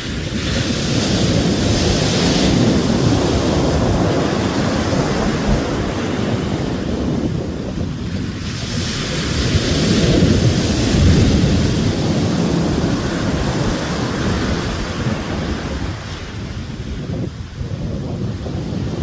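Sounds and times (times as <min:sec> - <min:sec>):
low wind rumble on microphone: 0:00.0 - 0:19.0
ocean waves breaking: 0:00.0 - 0:19.0.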